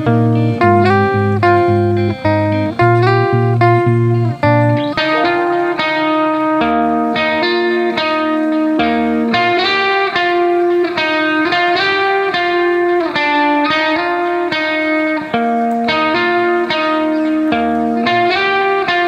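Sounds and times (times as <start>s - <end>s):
instrumental background music: 0.0s - 19.0s.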